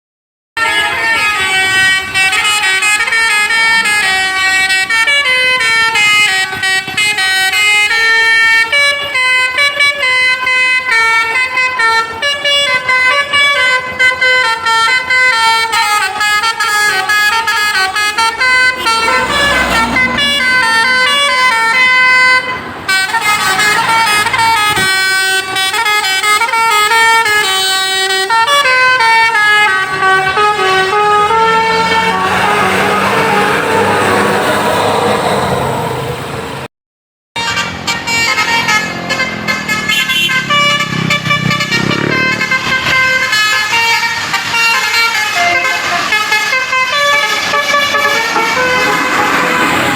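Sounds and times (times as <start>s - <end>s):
musical bus air horn tune: 0.6s - 35.9s, 37.4s - 49.9s.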